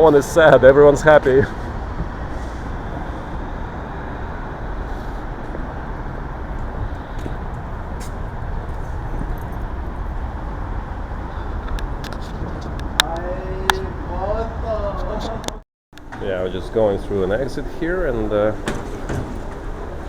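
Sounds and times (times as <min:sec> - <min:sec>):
low rumbling vehicle noise: 0:00.0 - 0:20.0.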